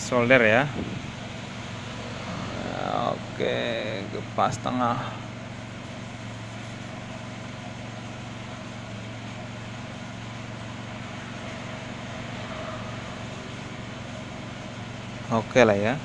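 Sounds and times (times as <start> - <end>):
low hum: 0.6 - 15.4.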